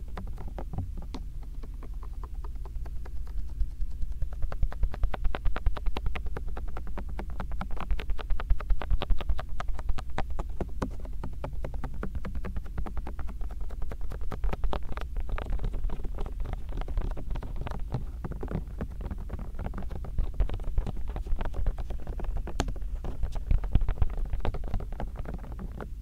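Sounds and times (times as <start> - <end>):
hands rubbing on microphone: 0.0 - 26.0.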